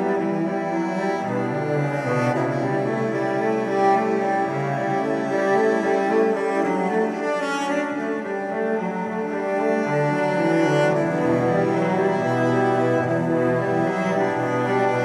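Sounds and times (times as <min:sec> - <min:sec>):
bowed strings slow sustained notes: 0:00.0 - 0:15.0.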